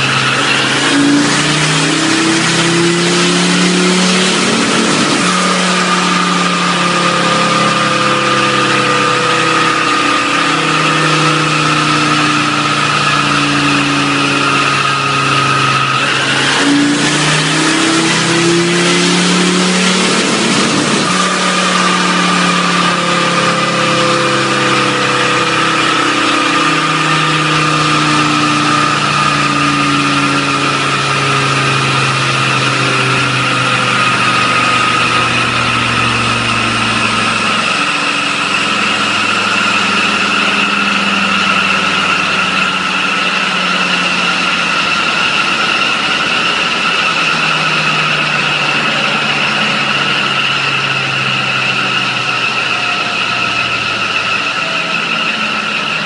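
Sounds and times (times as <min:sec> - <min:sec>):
diesel engine running: 0:00.0 - 0:56.0
high whine: 0:00.0 - 0:56.0.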